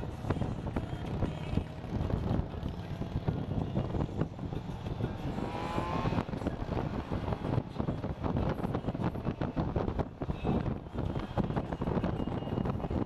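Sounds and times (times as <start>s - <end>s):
motorcycle road noise: 0.0s - 13.0s
wind buffeting microphone: 0.0s - 13.0s.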